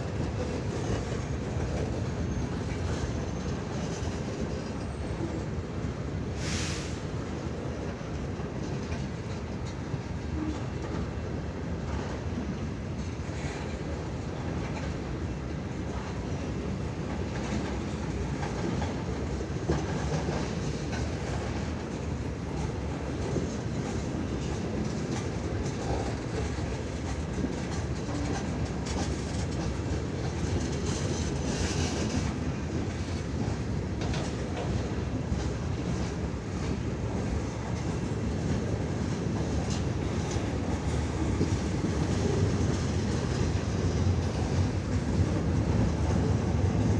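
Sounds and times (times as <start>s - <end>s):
freight train wheels rumbling on rail: 0.0s - 46.9s.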